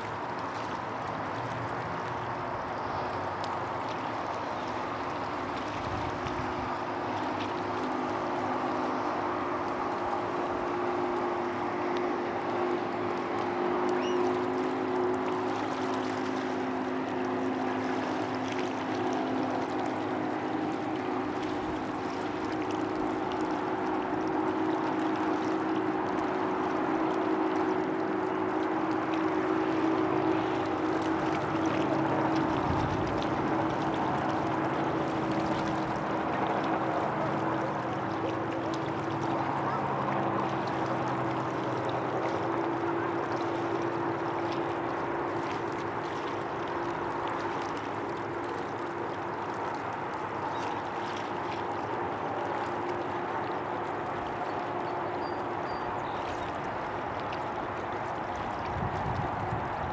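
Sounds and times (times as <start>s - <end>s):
river water flowing and lapping: 0.0s - 59.9s.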